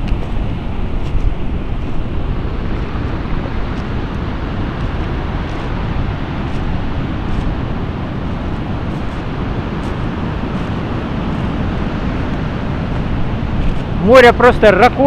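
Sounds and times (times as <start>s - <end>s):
surf rumbling on stony beach: 0.0s - 15.0s
wind buffeting microphone: 0.0s - 15.0s.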